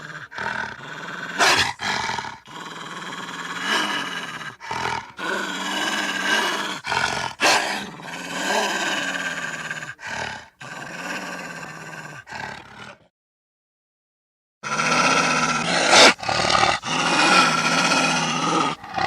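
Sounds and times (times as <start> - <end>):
wolf growling: 0.0 - 13.1, 14.7 - 19.0.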